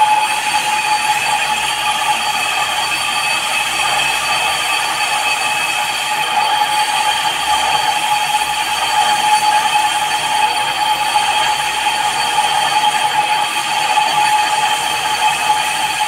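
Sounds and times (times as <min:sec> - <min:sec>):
metal lathe whirring: 0:00.0 - 0:16.0.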